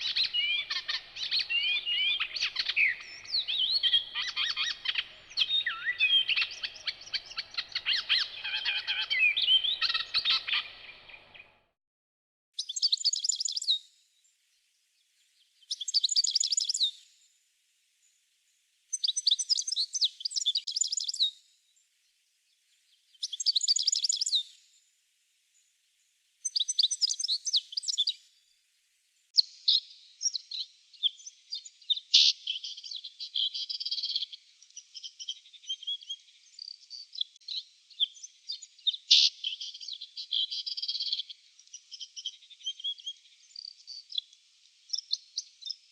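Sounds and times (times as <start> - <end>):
bird chirping: 0.0 - 11.8, 12.6 - 13.9, 15.5 - 17.1, 18.9 - 21.4, 23.1 - 24.6, 26.4 - 28.2, 29.3 - 45.9.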